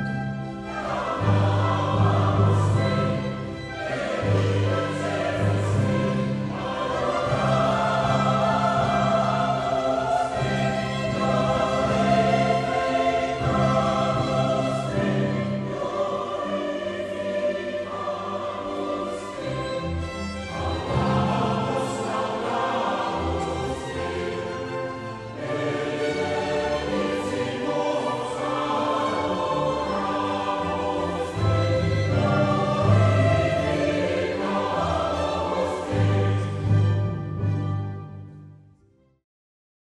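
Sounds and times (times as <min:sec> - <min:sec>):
choir singing sacred music: 0:00.0 - 0:38.6
orchestra playing: 0:00.0 - 0:38.6.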